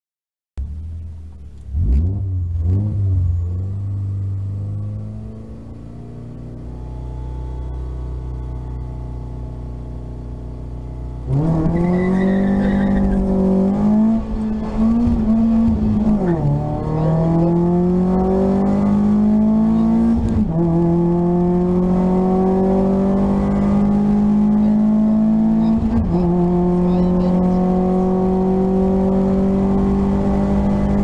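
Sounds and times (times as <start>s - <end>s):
car engine accelerating: 0.6s - 31.0s.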